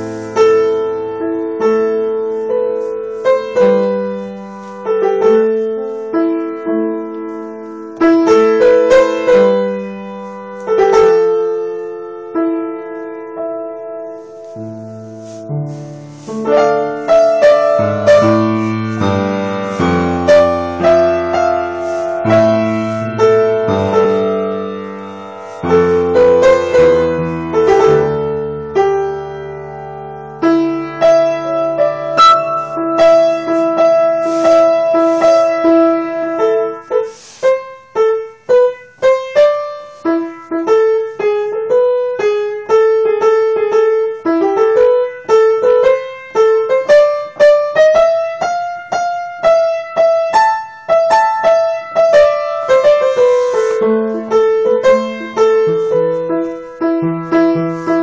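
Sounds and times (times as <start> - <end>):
piano playing: 0.0 - 58.0.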